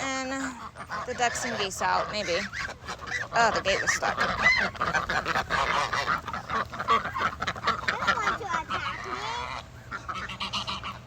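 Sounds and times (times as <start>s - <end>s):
ducks quacking: 0.0s - 11.0s
geese honking: 0.0s - 11.0s.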